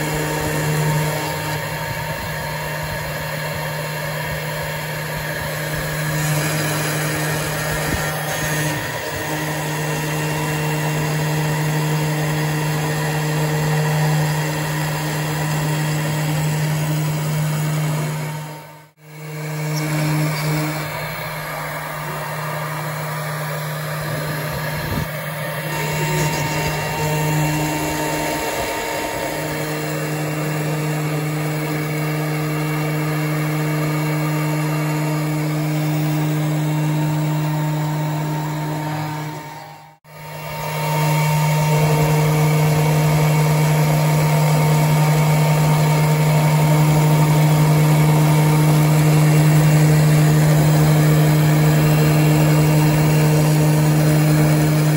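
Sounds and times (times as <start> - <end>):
router spindle running: 0.0 - 54.9.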